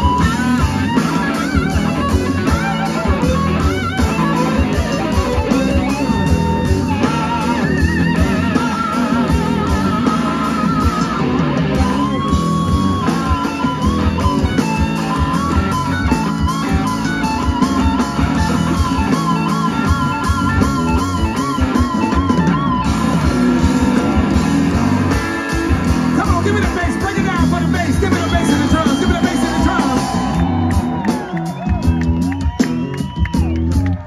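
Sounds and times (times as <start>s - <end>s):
live blues-rock band: 0.0s - 34.0s
pedal steel guitar: 0.0s - 34.0s.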